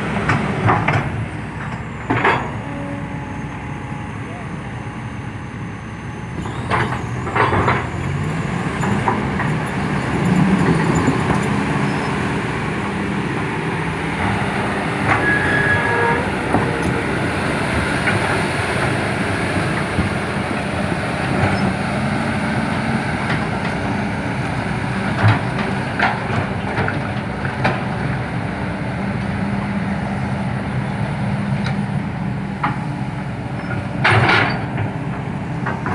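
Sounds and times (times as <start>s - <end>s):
heavy diesel machinery running: 0.0s - 35.9s.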